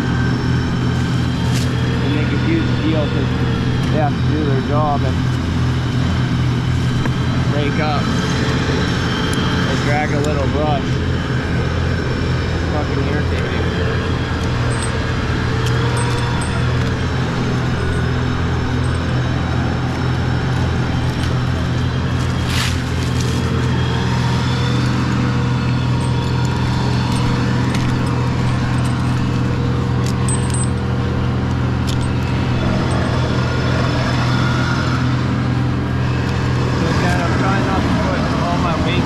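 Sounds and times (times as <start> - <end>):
large engine droning: 0.0 - 39.0.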